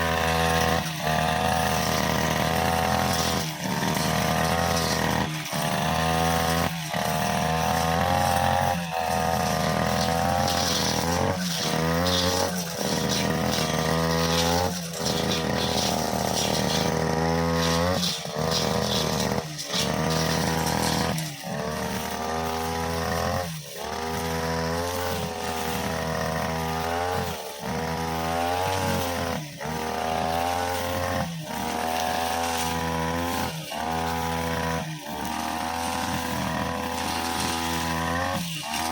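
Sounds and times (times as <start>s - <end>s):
brushcutter engine at high speed: 0.0s - 38.9s
metal blade cutting grass: 0.0s - 38.9s.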